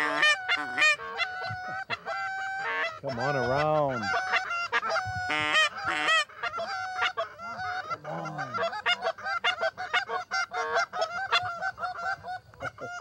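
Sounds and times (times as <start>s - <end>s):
goose calls honking and clucking: 0.0s - 13.0s.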